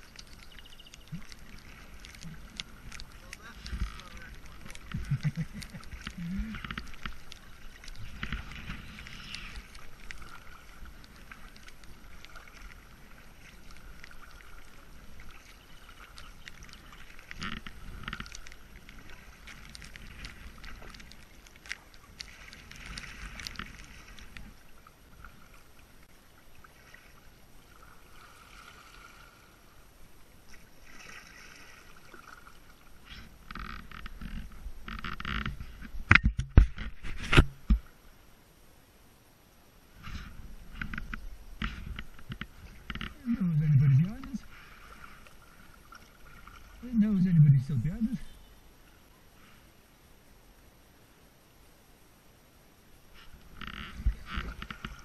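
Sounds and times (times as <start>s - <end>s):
paddle splashing in water: 0.0s - 29.7s, 30.4s - 38.1s, 39.9s - 49.6s, 53.1s - 55.0s
water washing against hull: 0.0s - 38.0s, 39.9s - 49.0s, 53.1s - 55.0s.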